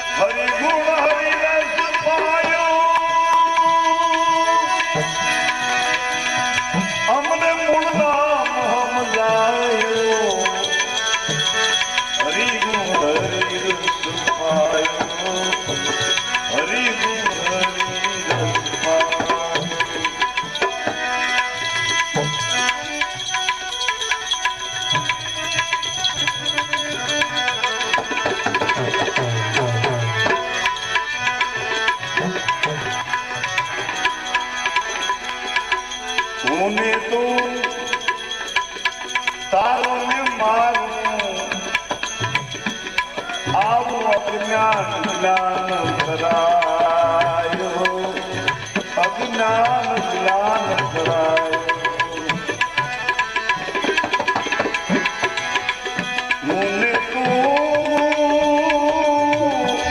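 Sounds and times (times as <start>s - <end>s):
tabla playing fast rhythm: 0.0s - 59.9s.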